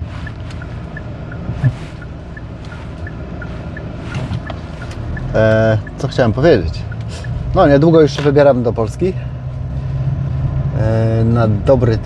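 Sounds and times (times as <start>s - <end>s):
turn signal ticking: 0.0s - 10.6s
car engine and road rumble: 0.0s - 12.0s.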